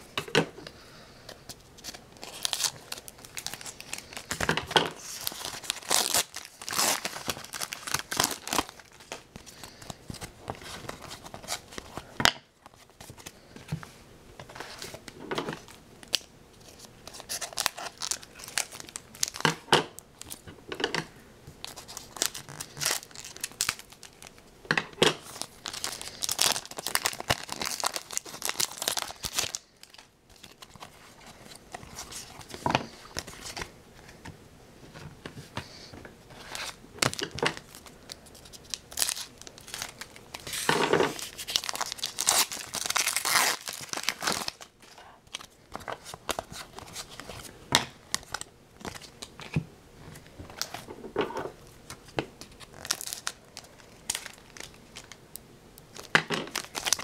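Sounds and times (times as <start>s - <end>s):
wrapper crinkling and tearing: 1.8s - 13.3s, 14.7s - 20.4s, 21.6s - 24.4s, 25.2s - 33.7s, 36.4s - 49.6s, 51.9s - 55.2s, 55.9s - 57.0s.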